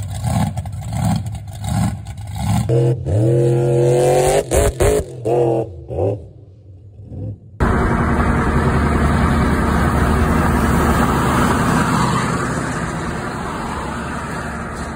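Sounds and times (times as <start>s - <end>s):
engine revving: 0.0s - 14.9s
road and wind noise in vehicle: 0.0s - 14.9s.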